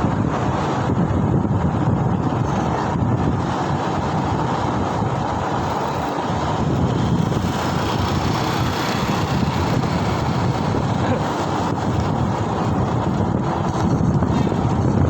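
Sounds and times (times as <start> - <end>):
road and traffic noise: 0.0 - 15.0
wind rush over microphone: 0.0 - 15.0.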